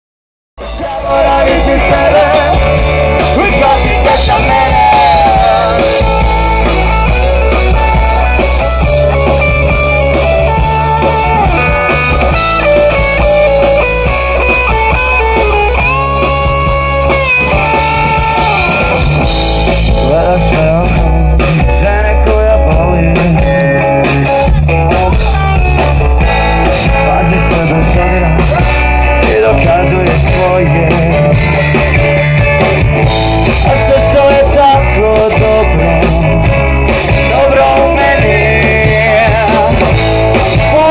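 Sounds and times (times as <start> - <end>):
bending lead guitar notes: 0.6 - 40.9
drums: 0.6 - 40.9
electric guitars: 0.6 - 40.9.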